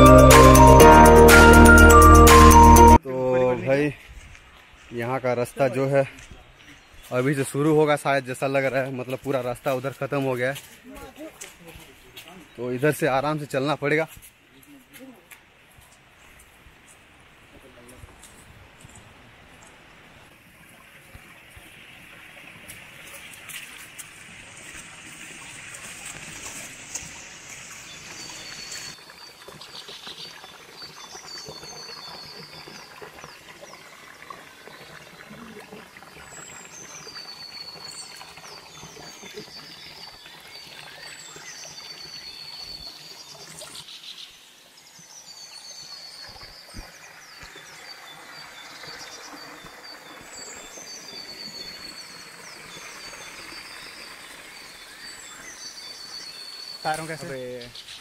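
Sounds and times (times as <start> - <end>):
stream trickling: 5.8 - 58.0.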